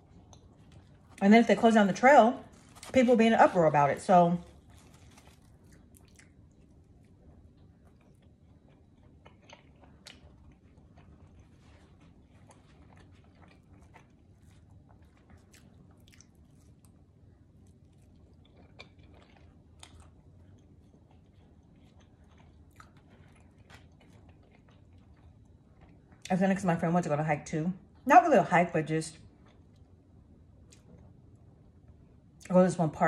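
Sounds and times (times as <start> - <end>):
chewing pizza: 0.0 - 26.4, 29.1 - 32.5.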